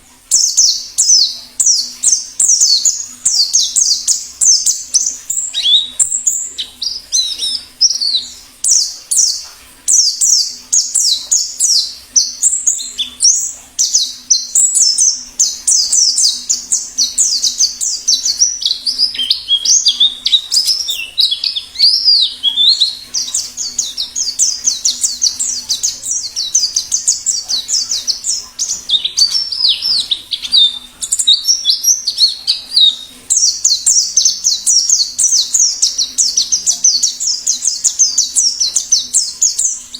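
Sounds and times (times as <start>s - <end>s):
birds twittering rapidly: 0.0s - 39.9s.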